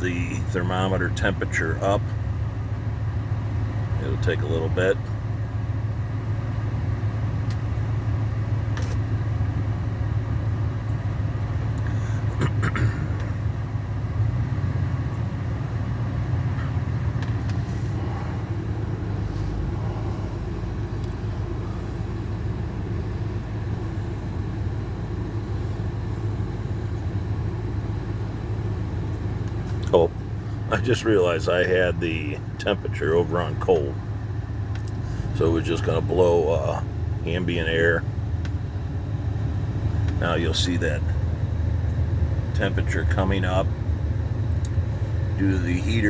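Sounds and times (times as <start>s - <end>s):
engine running heard inside cab: 0.0s - 46.0s
heater fan blowing: 0.0s - 46.0s.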